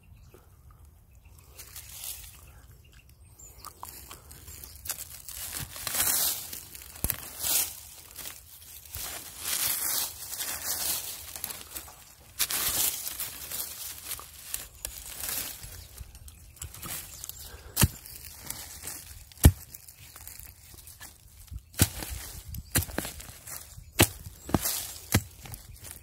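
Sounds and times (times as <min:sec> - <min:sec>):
dry leaves and twigs crackling: 0:00.3 - 0:26.0.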